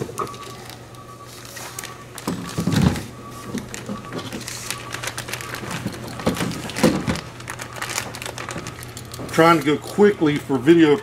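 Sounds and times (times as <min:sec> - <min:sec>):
plastic wrapping crinkling: 0:00.0 - 0:09.6.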